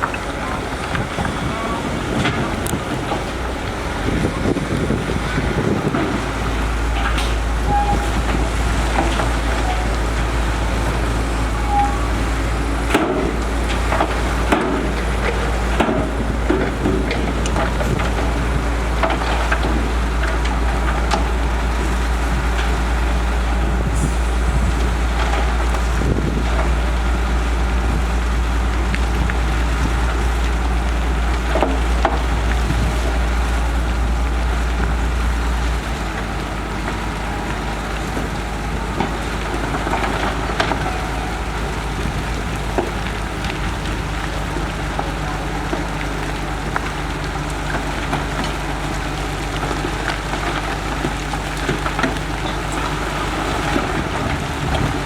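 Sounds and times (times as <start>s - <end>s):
diesel machinery rumbling: 0.0s - 55.0s.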